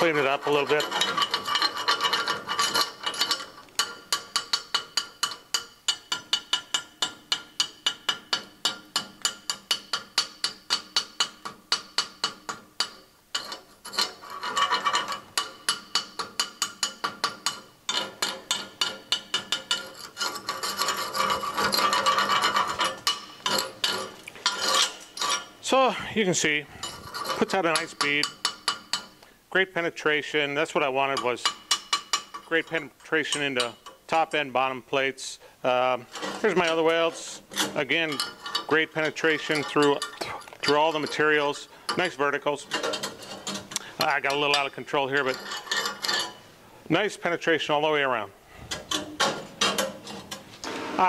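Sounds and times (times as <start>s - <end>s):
hand tool scraping weld: 0.0s - 29.4s, 30.0s - 51.0s.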